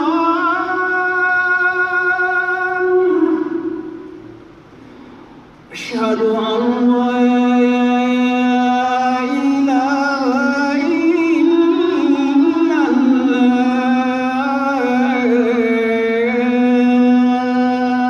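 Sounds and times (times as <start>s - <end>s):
man chanting into a microphone: 0.0s - 4.2s, 5.7s - 18.0s.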